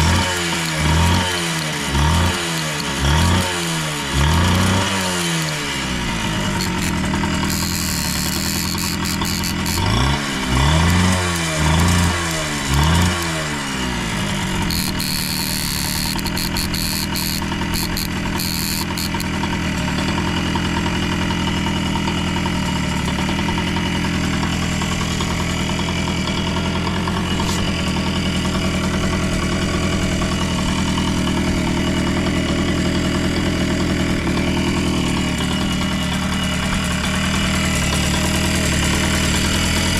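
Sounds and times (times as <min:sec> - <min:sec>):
two-stroke engine revving and idling: 0:00.0 - 0:39.9.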